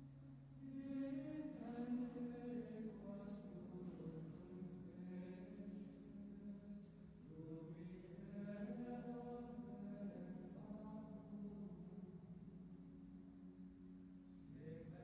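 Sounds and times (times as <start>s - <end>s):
faint chanting voices: 0.6s - 15.0s.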